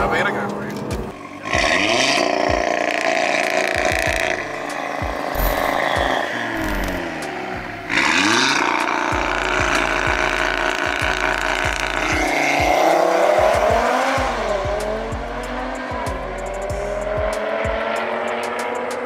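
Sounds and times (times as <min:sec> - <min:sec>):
car engines accelerating hard: 0:00.0 - 0:19.0.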